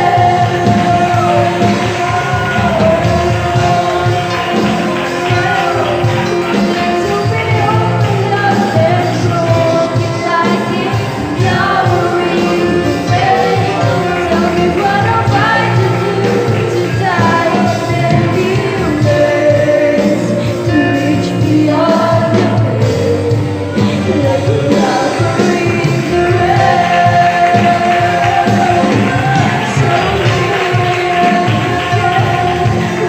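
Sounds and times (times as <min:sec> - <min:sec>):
instrumental band accompaniment: 0:00.0 - 0:33.0
youth choir singing: 0:00.0 - 0:33.0.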